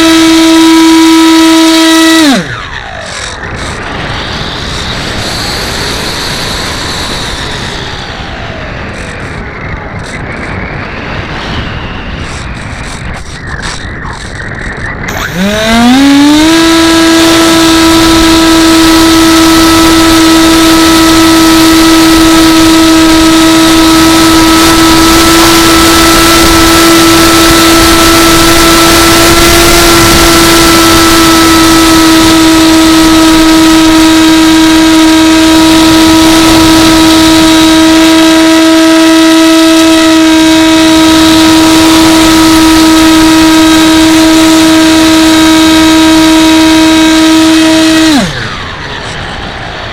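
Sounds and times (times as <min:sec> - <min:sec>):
model plane motor whining: 0:00.0 - 0:49.9.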